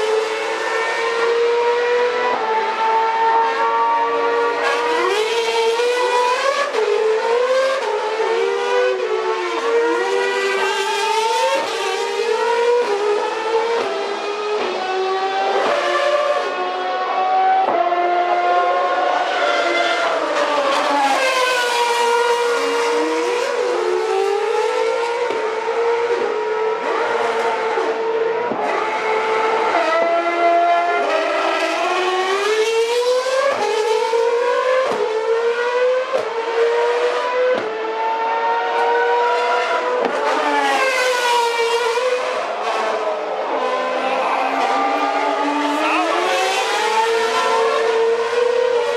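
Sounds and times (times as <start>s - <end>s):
racing cars passing at high revs: 0.0s - 48.9s.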